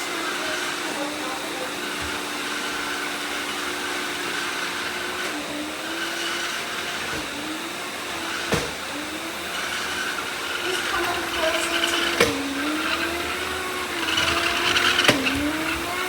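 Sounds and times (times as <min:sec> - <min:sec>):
robot vacuums whirring: 0:00.0 - 0:16.0.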